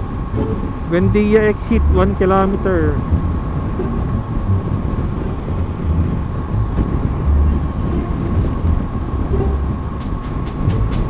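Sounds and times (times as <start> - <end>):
deep rumble: 0.0 - 11.0
steady high hum: 0.0 - 11.0
wind buffeting: 0.0 - 11.0.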